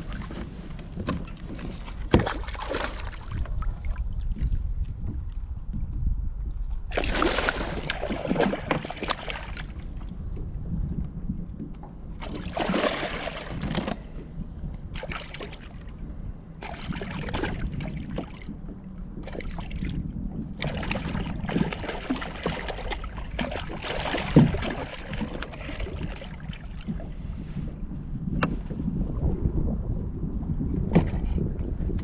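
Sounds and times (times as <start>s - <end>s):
water sloshing against hull: 0.0s - 32.0s
wind buffeting microphone: 0.0s - 32.0s.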